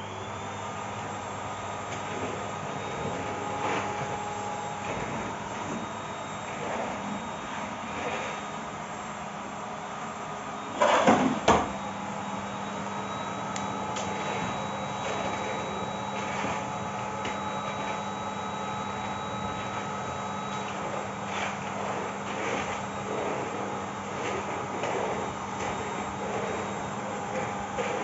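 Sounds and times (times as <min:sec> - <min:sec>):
vacuum cleaner humming: 0:00.0 - 0:28.0.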